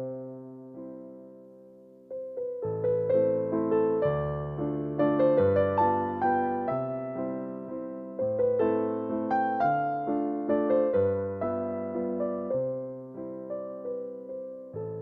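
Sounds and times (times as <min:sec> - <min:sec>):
soft slow piano melody: 0:00.0 - 0:15.0.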